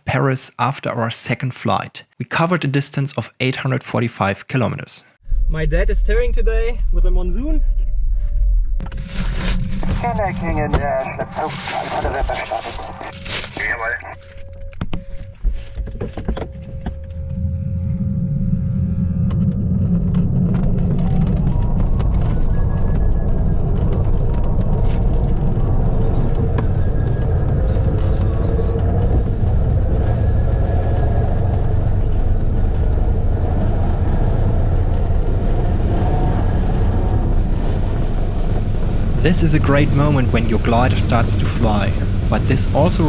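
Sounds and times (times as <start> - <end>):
glider cockpit rumble and airflow: 6.2 - 43.0.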